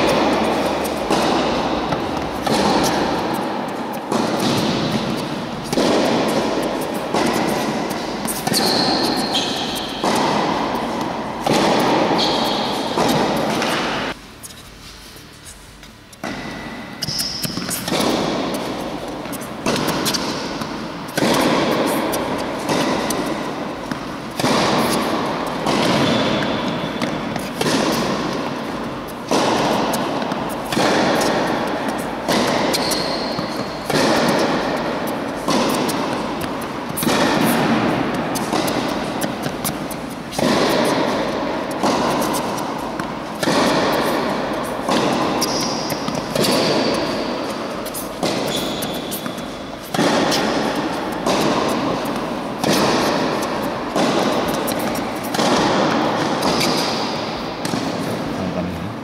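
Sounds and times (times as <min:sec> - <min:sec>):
tennis ball bounces: 0:00.0 - 0:14.2, 0:16.1 - 0:58.9
tennis racket strikes: 0:00.0 - 0:59.0.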